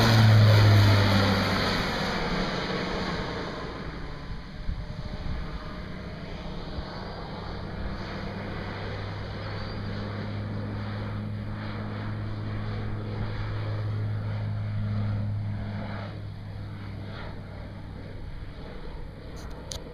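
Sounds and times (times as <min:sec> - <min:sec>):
propeller plane flying past: 0:00.0 - 0:19.9.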